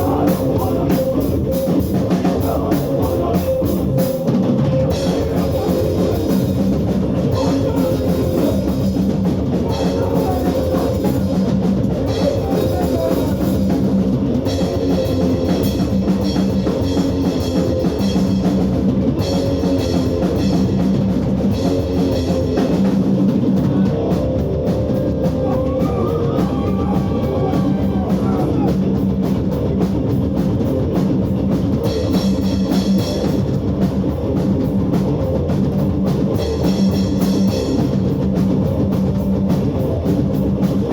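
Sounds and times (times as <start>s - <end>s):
loud hardcore band playing: 0.0s - 40.9s.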